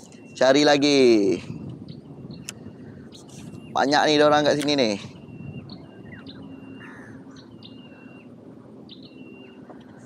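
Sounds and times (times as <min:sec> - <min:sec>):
bird calling: 0:00.0 - 0:10.0.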